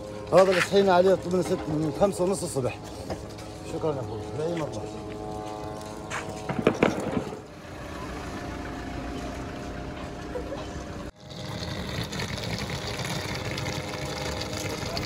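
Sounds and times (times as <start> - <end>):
vehicle engines humming: 0.0 - 15.0.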